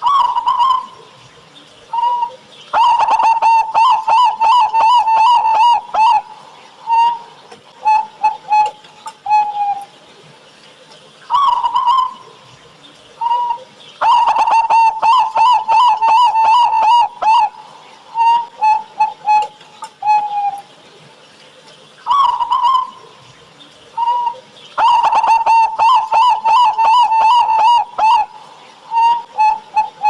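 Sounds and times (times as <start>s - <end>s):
dove cooing: 0.0s - 9.9s, 11.3s - 20.8s, 21.6s - 30.0s.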